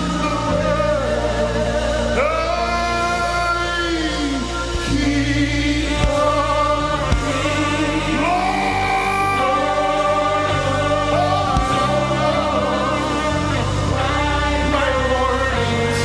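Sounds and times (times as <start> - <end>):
band with bass and keyboard: 0.0 - 16.0
voices singing sliding notes: 0.0 - 16.0.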